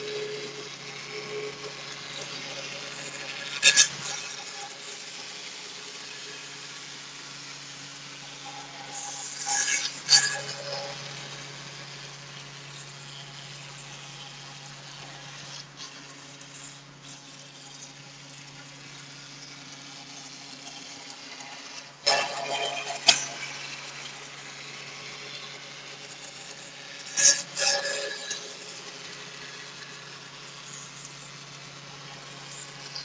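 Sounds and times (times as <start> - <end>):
engraving machine humming: 0.0 - 33.0.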